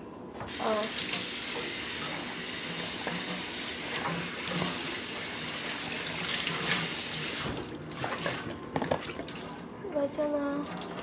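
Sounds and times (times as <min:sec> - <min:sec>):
tap water running: 0:00.4 - 0:09.7.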